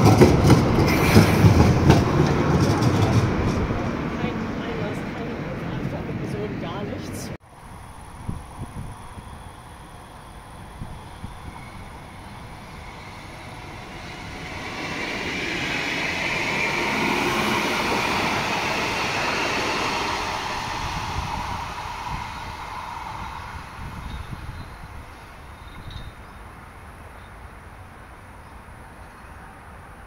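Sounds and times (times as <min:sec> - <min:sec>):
light-rail train passing: 0:00.0 - 0:30.0.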